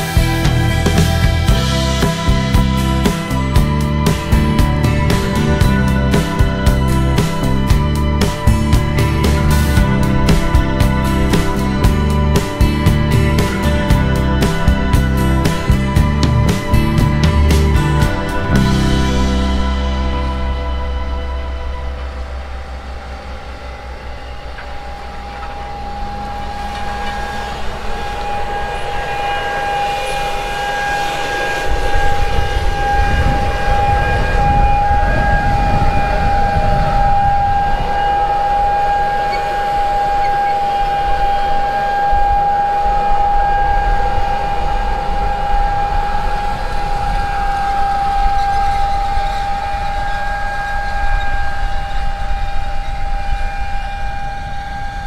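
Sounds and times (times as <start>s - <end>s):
steady high whine: 0.0s - 55.0s
tractor diesel engine rumble: 0.0s - 55.0s.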